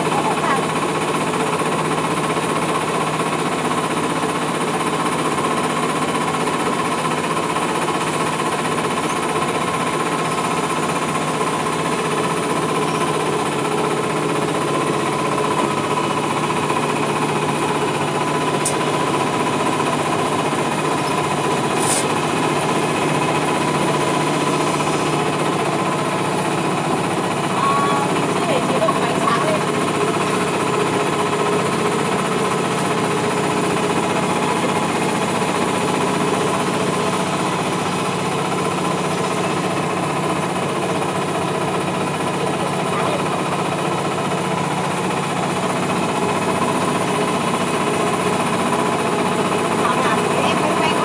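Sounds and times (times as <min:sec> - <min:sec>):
small boat engine running: 0:00.0 - 0:51.0.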